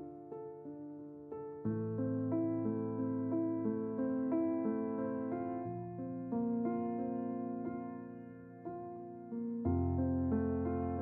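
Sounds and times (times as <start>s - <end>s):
gentle keyboard melody: 0.0s - 11.0s.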